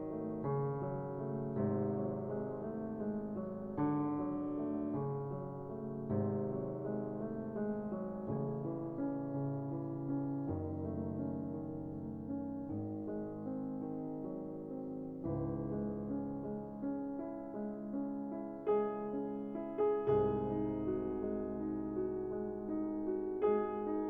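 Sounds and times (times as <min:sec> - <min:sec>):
gentle piano chords: 0:00.0 - 0:24.0.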